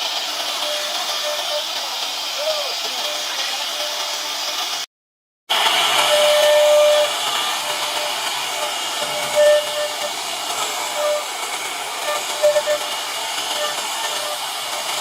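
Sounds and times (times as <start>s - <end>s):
wood router hissing: 0.0s - 4.8s, 5.5s - 15.0s.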